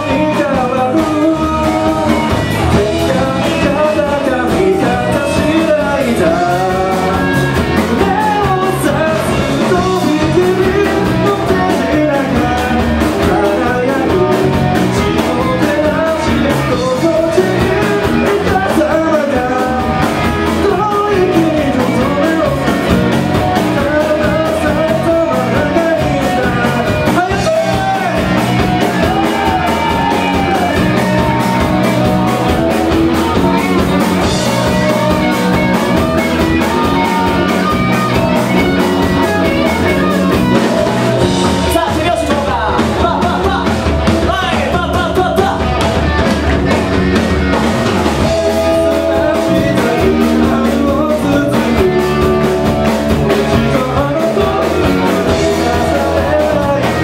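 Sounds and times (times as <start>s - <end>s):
man singing lead vocal: 0.0s - 46.8s, 48.0s - 57.0s
live rock band playing: 0.0s - 57.0s.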